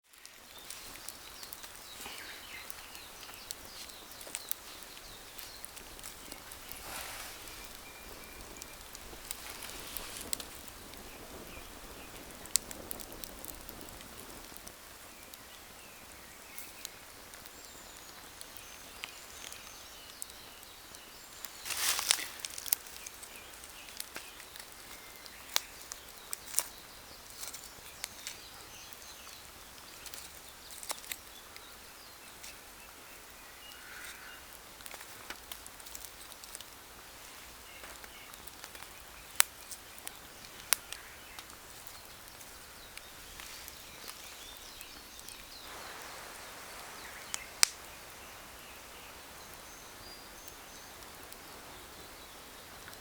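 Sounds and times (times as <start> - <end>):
campfire crackling: 0.0 - 53.0
faint birdsong: 0.0 - 53.0.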